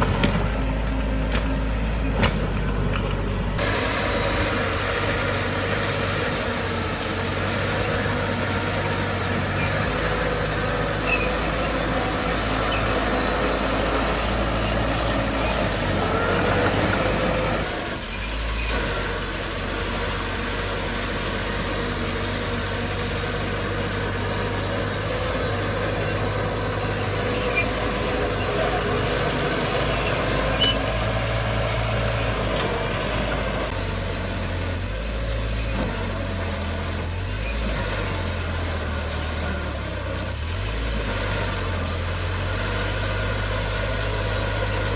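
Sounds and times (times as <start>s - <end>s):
heavy machinery diesel engine: 0.0s - 44.9s.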